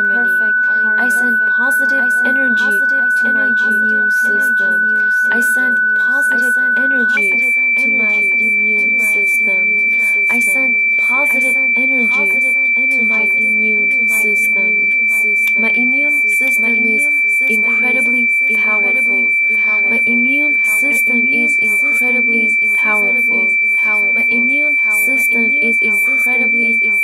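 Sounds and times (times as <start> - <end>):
high-pitched pure tone: 0.0 - 27.0
shifting pitches background: 0.0 - 27.0.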